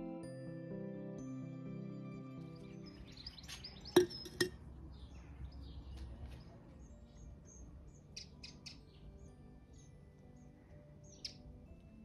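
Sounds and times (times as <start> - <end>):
small birds chirping: 2.2 - 12.0.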